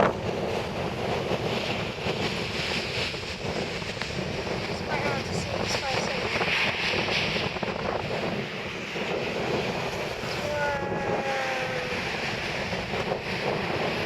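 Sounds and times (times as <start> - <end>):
waves breaking on shore: 0.0 - 14.0
wind buffeting microphone: 0.0 - 14.0.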